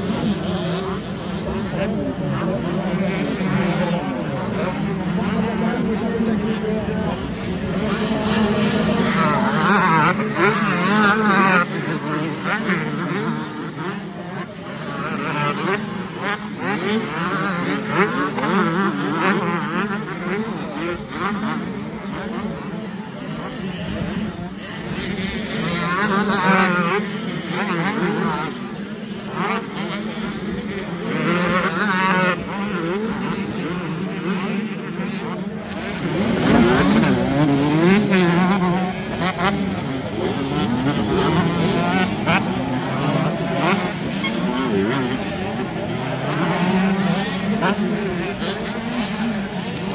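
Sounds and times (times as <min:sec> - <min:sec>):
motocross bikes revving: 0:00.0 - 0:49.9.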